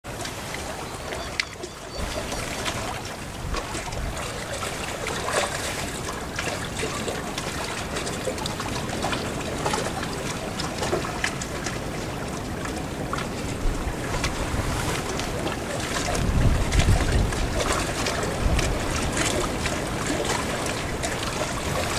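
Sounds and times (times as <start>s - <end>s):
lake water lapping: 0.1s - 21.9s
wind on microphone: 2.0s - 21.9s.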